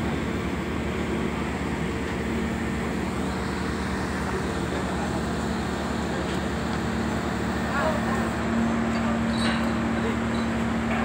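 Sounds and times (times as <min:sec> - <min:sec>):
ship machinery droning: 0:00.0 - 0:11.0.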